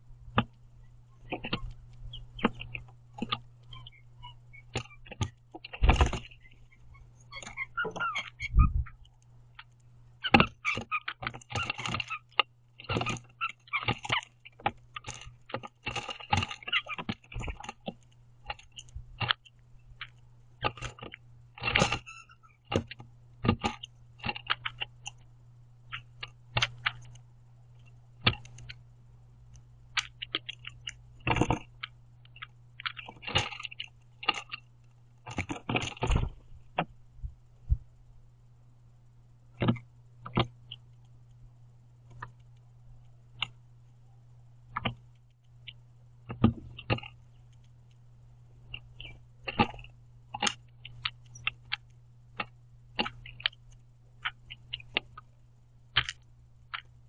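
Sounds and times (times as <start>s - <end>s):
low steady hum: 0.0s - 57.0s
birds pecking on wooden feeder: 0.3s - 37.0s, 39.5s - 43.7s, 44.6s - 57.0s.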